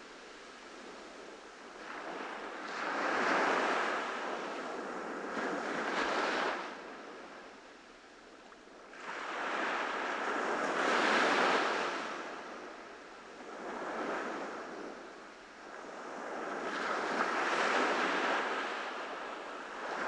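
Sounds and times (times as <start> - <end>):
waves breaking on beach: 0.0 - 7.6, 8.9 - 20.0.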